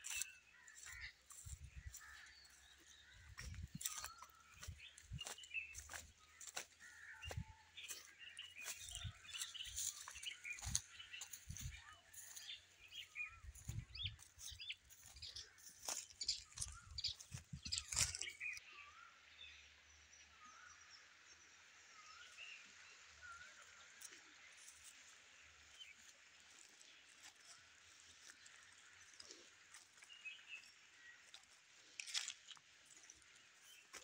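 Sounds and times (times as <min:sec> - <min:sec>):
small birds chirping: 0:00.0 - 0:18.7, 0:23.6 - 0:34.0.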